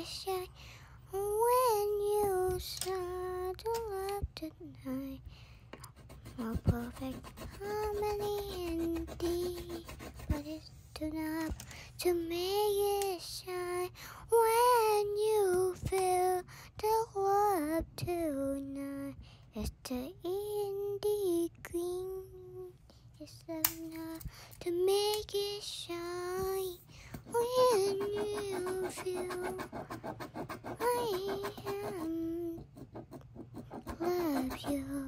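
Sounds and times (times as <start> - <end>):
child singing: 0.0 - 5.2, 6.2 - 32.8, 33.7 - 35.0.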